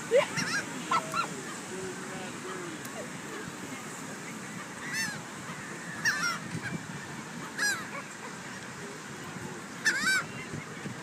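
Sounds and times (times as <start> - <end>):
seagulls calling: 0.0 - 8.6, 9.6 - 11.0.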